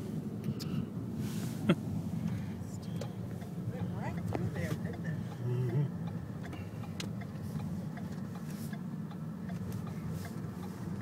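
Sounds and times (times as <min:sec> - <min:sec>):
car engine and tyres hum: 0:00.0 - 0:11.0.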